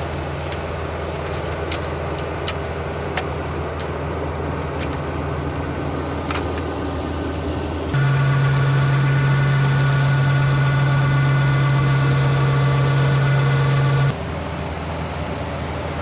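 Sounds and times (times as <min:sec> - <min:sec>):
flail mower cutting grass: 0:00.0 - 0:16.0
tractor diesel engine under load: 0:00.0 - 0:16.0.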